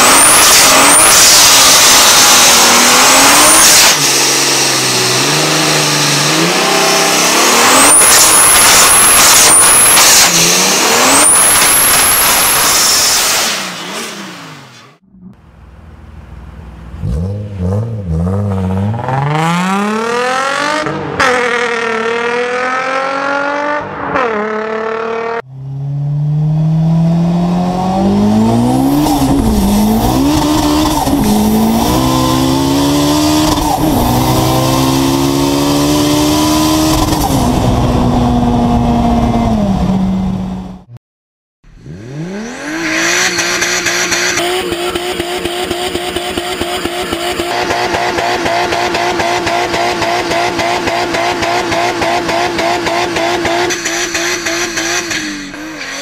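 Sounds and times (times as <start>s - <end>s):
car engine at high revs: 0.0s - 40.9s, 41.7s - 56.0s
car engine revving: 0.0s - 40.9s, 41.7s - 56.0s
car engine at full throttle: 0.0s - 41.0s, 41.7s - 56.0s.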